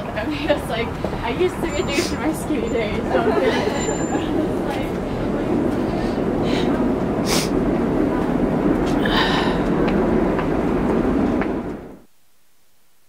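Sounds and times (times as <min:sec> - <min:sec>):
rumble of passing vehicles: 0:00.0 - 0:12.1.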